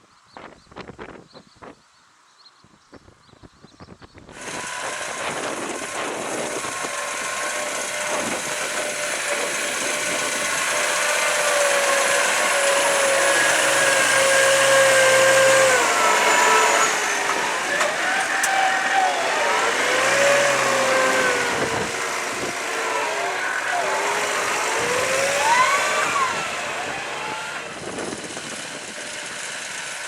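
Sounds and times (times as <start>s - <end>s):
tractor diesel engine under load: 4.3s - 30.0s
steady whine: 4.4s - 30.0s.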